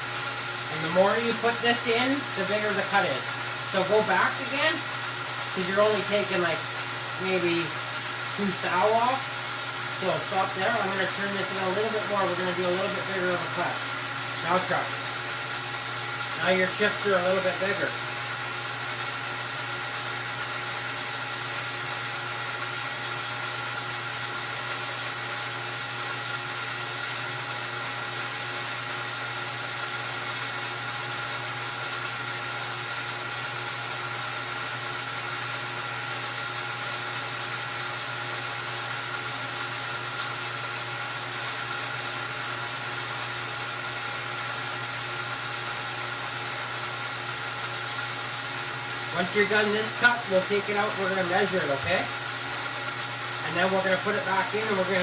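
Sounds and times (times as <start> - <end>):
metal lathe humming and whining: 0.0 - 55.0.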